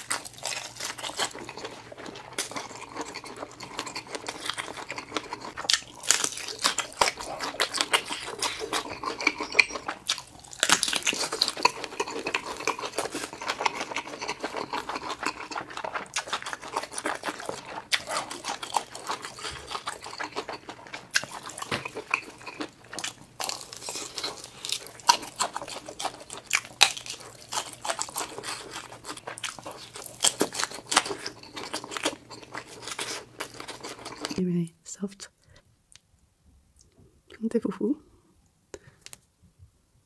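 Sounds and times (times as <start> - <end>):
chewing and biting sausages: 0.0 - 34.4.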